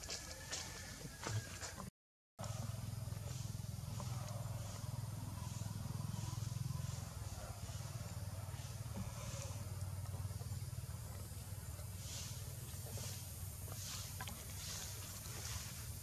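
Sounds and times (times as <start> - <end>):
steady low hum: 2.4 - 16.0.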